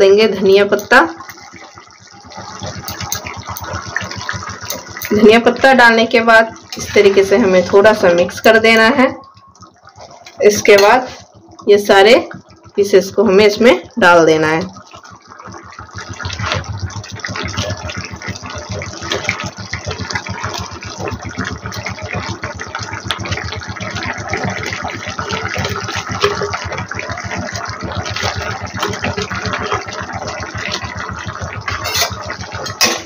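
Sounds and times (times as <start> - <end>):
curry gravy boiling and bubbling: 0.0 - 33.0.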